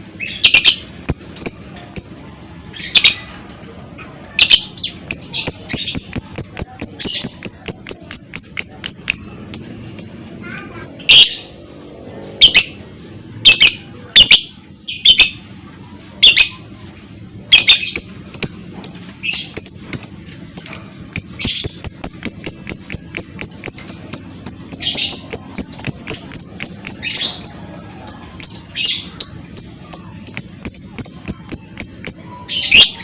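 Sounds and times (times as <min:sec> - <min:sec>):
lovebird calling and chirping: 0:00.2 - 0:03.4, 0:04.3 - 0:11.5, 0:12.4 - 0:12.8, 0:13.4 - 0:15.5, 0:16.2 - 0:16.6, 0:17.4 - 0:33.0.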